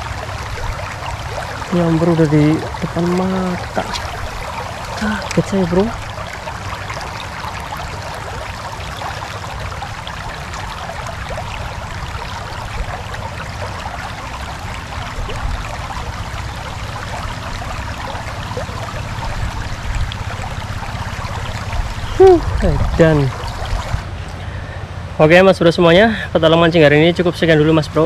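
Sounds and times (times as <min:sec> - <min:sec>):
low rumble: 0:00.0 - 0:24.8
water rushing over shallows: 0:00.0 - 0:28.0.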